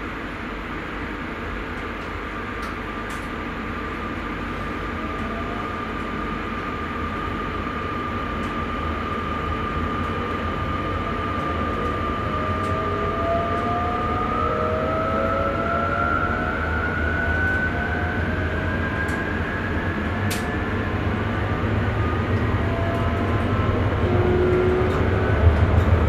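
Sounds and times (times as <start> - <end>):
electric train rumbling: 0.0 - 26.0
train motor whine: 4.8 - 26.0.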